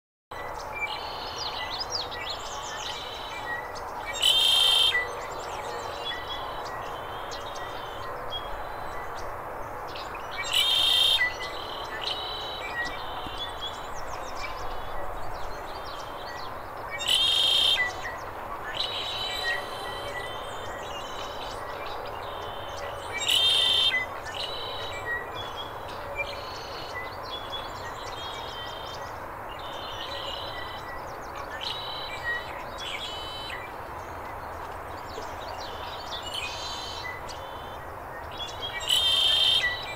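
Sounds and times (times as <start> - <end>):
blackbird buzzy song: 0.4 - 39.9
steady background noise: 0.4 - 39.9.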